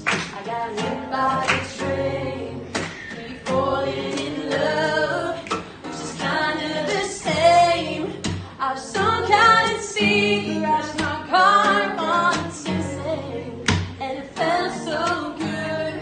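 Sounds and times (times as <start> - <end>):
acoustic guitar strumming: 0.0 - 16.0
woman singing: 0.2 - 16.0.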